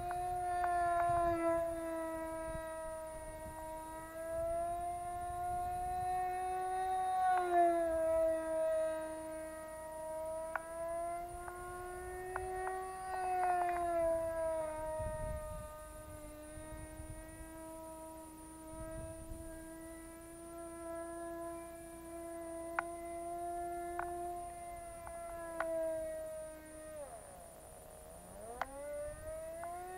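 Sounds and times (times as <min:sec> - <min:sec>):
wind rumble on microphone: 0:00.0 - 0:27.4, 0:28.2 - 0:29.9
model plane engine buzzing: 0:00.0 - 0:29.9.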